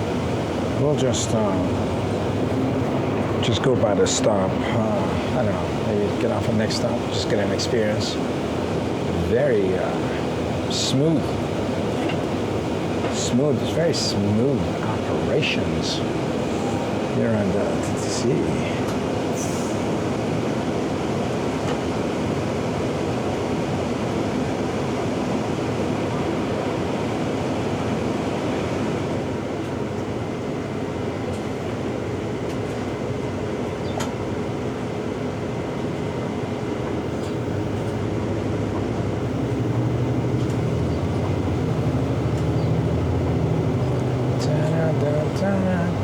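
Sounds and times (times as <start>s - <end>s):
deep engine drone: 0.0s - 21.8s, 28.4s - 46.0s
bus engine and road rumble: 0.0s - 46.0s.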